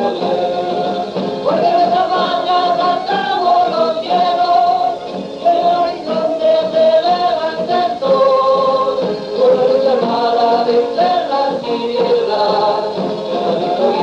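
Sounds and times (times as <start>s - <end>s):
choir singing long held notes: 0.0s - 14.0s.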